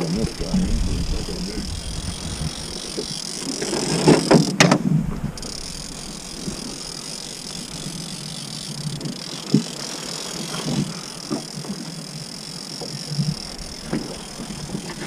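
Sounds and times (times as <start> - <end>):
boat motor hiss and whine: 0.0 - 15.0.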